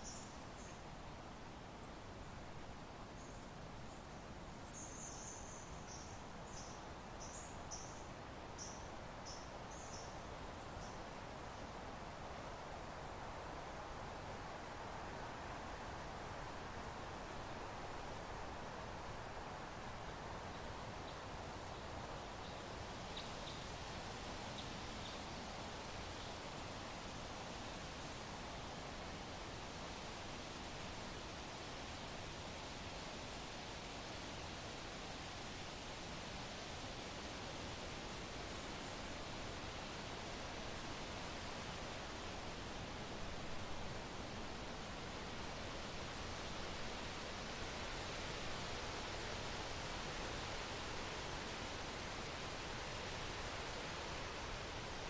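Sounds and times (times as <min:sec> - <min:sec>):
soft wind noise: 0:00.0 - 0:55.0.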